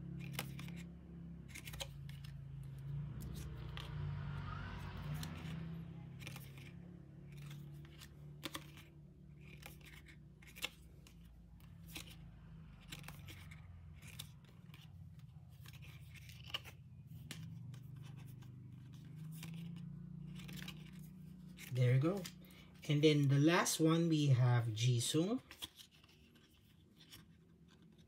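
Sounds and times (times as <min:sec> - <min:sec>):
cards shuffling clicks and scrapes: 0:00.0 - 0:28.0.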